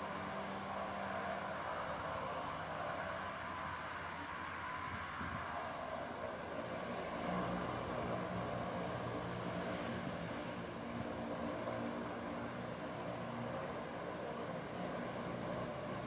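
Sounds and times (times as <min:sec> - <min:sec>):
distant engine droning: 0:00.0 - 0:16.0
outdoor hiss: 0:00.0 - 0:16.0.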